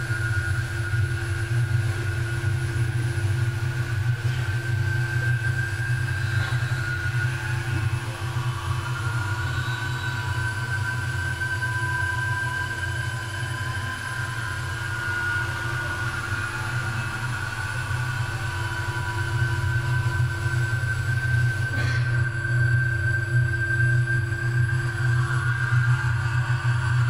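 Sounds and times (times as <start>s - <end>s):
low rumbling drone: 0.0s - 27.0s.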